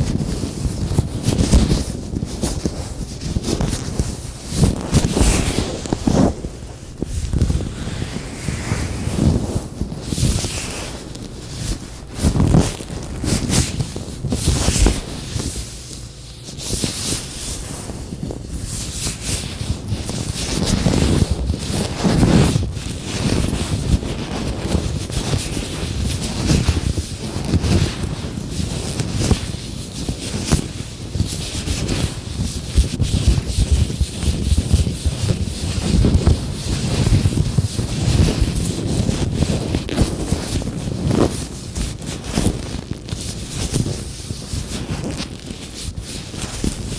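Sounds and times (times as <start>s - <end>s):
latex gloves rustling: 0.0s - 46.9s.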